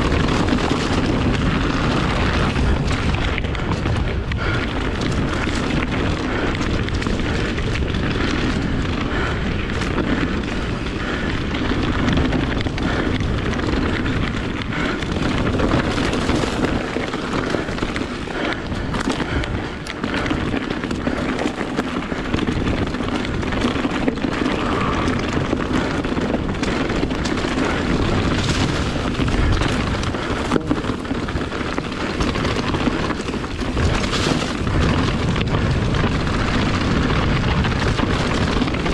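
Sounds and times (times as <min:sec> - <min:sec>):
bike knocking and rattling: 0:00.0 - 0:38.9
bike tyre roar over dirt: 0:00.0 - 0:38.9
wind on microphone: 0:00.0 - 0:38.9.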